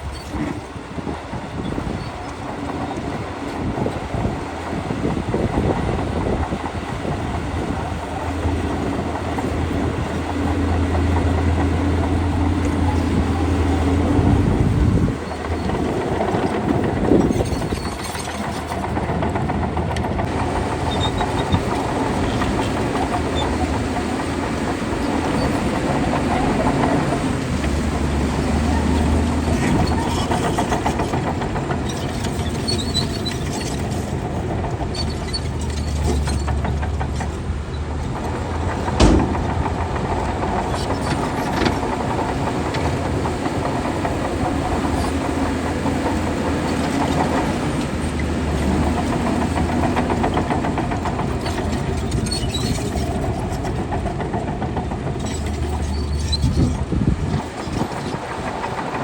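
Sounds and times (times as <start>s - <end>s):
bulldozer diesel engine rumbling: 0.0s - 59.0s
light clicking and rattling: 7.6s - 59.0s.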